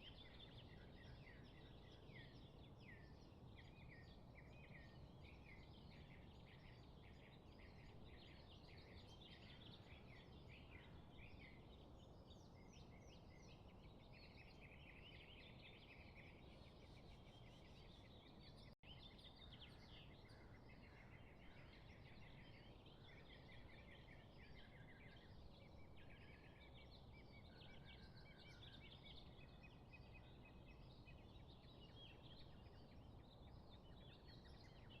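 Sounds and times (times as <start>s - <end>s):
small birds chirping and trilling: 0.0s - 35.0s.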